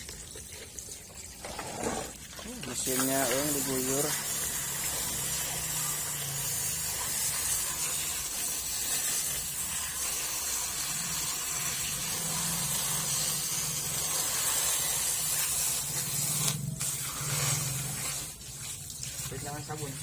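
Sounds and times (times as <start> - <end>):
pressure washer spraying water: 2.7 - 20.0.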